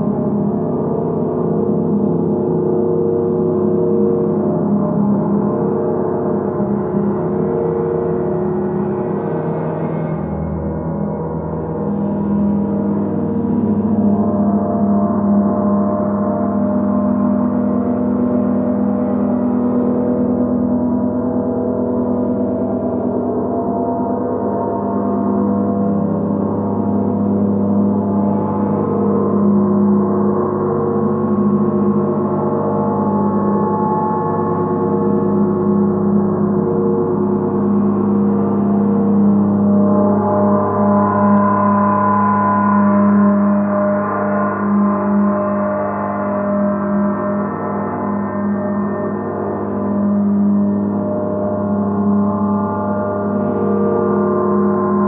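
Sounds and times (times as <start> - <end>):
low hum: 3.4 - 55.0.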